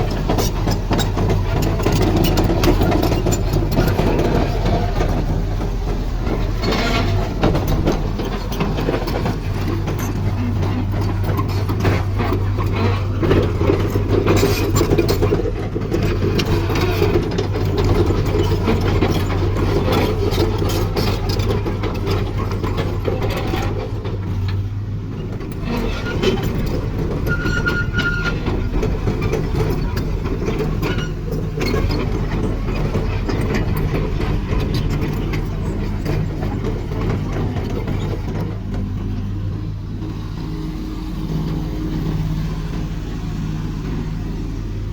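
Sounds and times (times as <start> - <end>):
excavator diesel engine running: 0.0 - 44.9
metallic clatter and clanking: 0.0 - 44.9.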